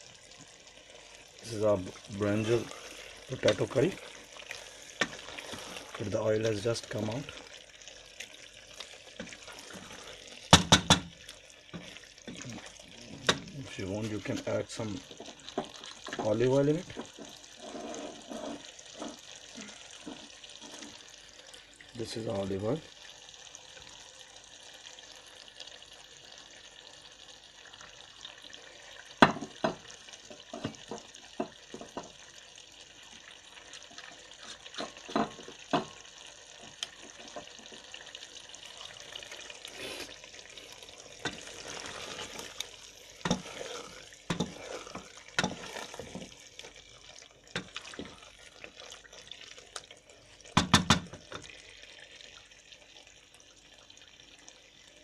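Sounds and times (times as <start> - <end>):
steady watery hiss: 0.0 - 55.0.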